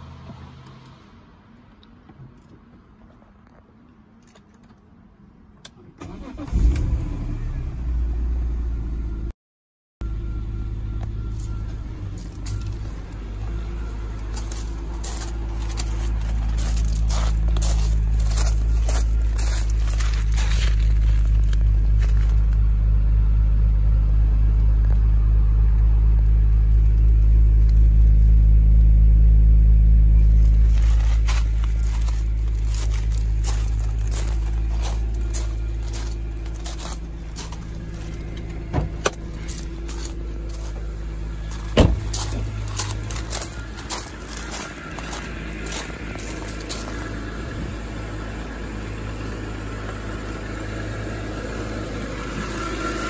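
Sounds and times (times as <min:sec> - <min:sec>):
car engine idling: 0:10.0 - 0:53.0.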